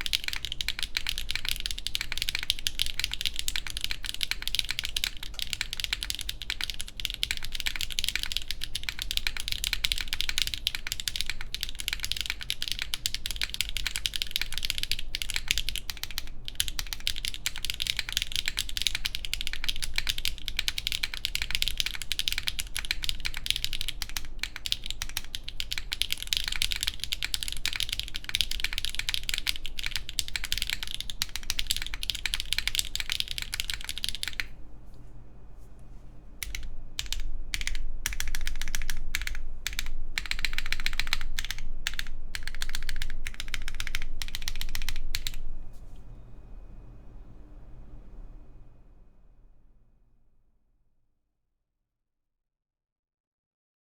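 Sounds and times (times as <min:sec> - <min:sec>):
fast mechanical keyboard typing: 0:00.0 - 0:34.5, 0:36.4 - 0:45.4.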